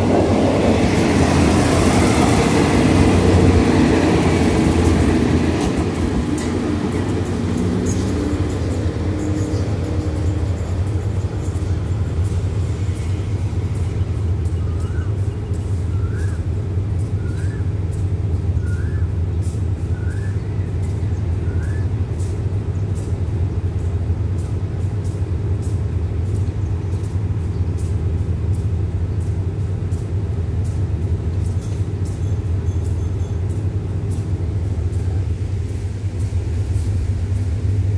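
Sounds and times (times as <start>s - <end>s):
train diesel engine droning: 0.0s - 37.9s.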